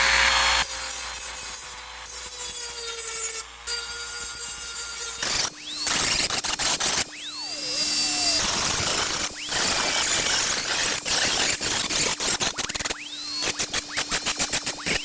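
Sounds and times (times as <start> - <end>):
power tool high whine: 0.0 - 15.0.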